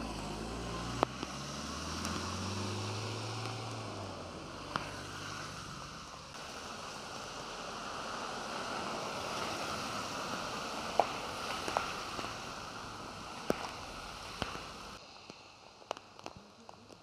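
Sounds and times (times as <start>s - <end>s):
tyres swishing on wet asphalt: 0.0s - 17.0s.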